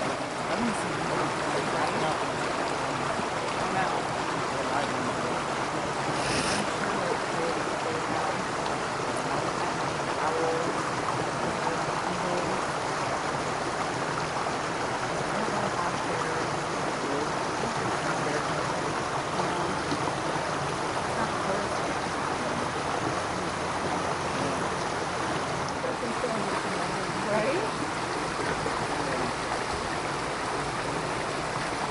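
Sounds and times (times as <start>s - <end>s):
creek water over rocks: 0.0s - 31.9s.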